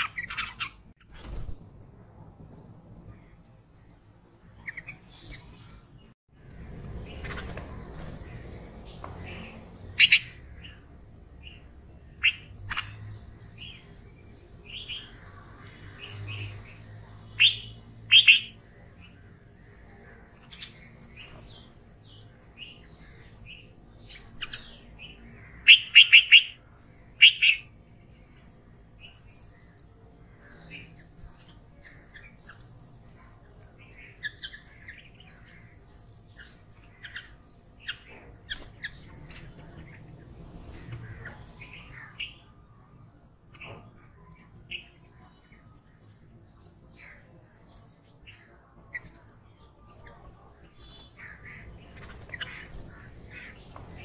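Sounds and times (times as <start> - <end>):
bulbuls chirping: 0.0 - 1.6, 4.5 - 28.3, 29.0 - 42.6, 46.4 - 54.0.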